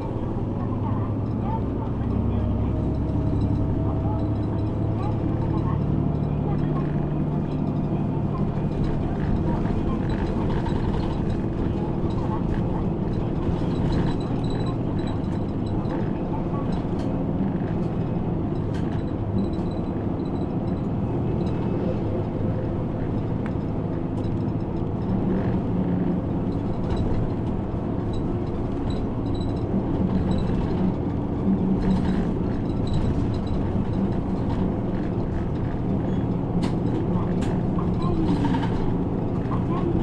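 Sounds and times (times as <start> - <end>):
bus engine hum: 0.0 - 40.0
bus fittings rattling: 2.8 - 40.0.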